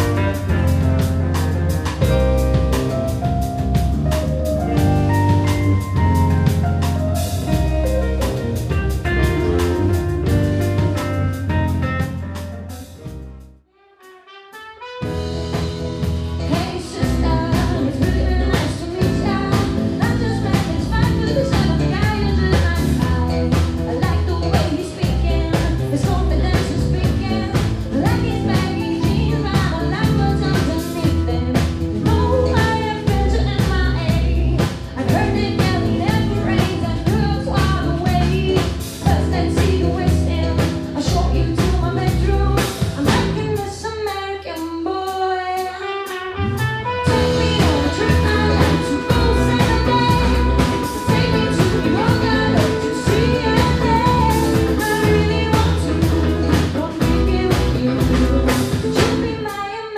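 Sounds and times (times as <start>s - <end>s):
live jazz band playing: 0.0s - 43.8s, 44.6s - 59.7s.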